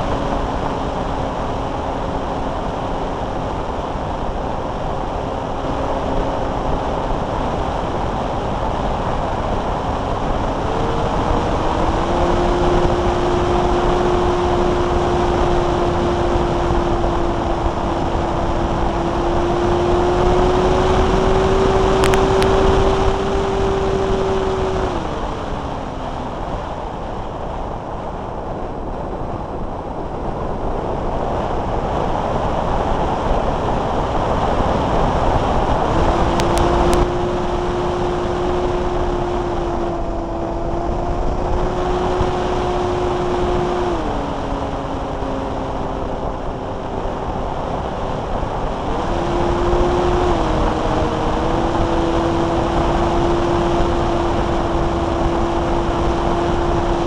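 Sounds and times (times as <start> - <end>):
electric motor whine: 0.0 - 27.1, 33.4 - 57.0.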